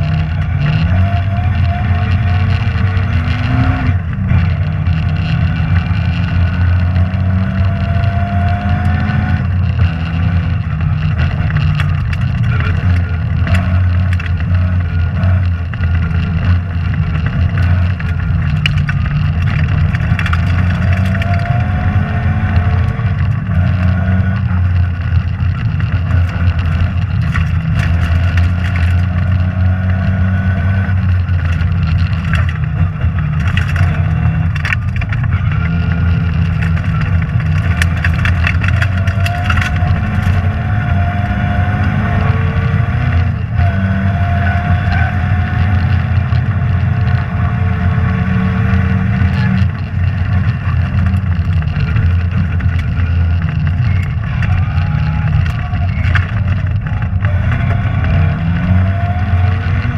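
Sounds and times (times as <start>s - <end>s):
sharp ticks and clatters: 0.0s - 40.6s, 48.8s - 57.4s
rally car engine running hard: 0.0s - 59.9s.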